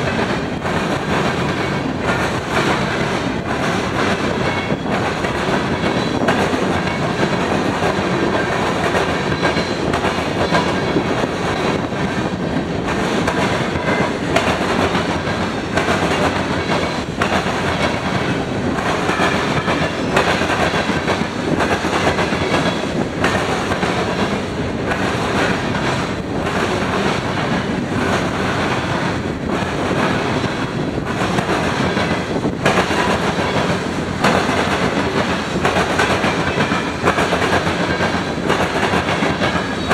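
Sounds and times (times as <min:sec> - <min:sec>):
steel wheels on rail: 0:00.0 - 0:39.9
wheels clicking over rail joints: 0:00.0 - 0:39.9.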